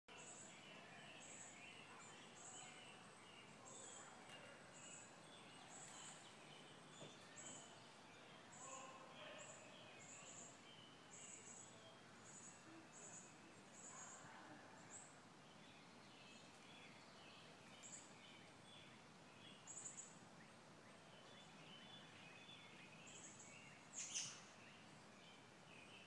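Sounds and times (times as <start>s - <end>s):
birds chirping: 0.1s - 26.0s
low background hiss: 0.1s - 26.0s.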